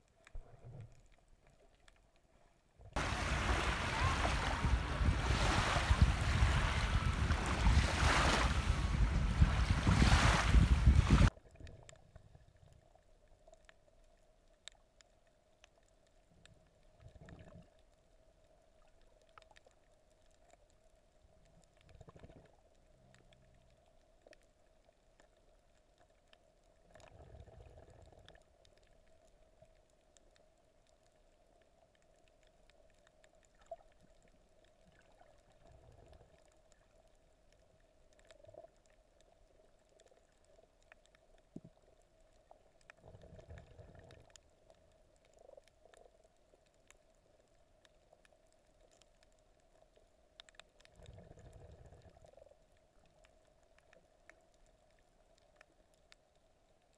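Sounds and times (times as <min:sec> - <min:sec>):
faint underwater hum: 0:00.0 - 0:56.9
muffled water movement: 0:00.0 - 0:56.9.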